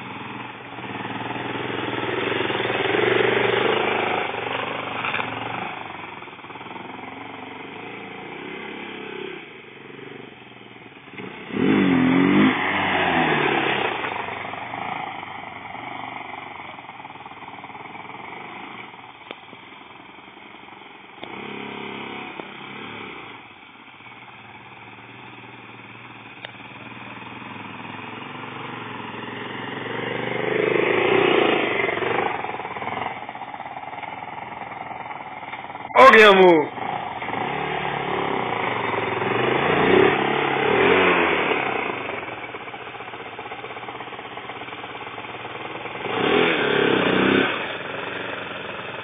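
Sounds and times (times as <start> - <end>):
quad bike engine revving: 0.0 - 19.4, 20.5 - 23.5, 24.4 - 49.0.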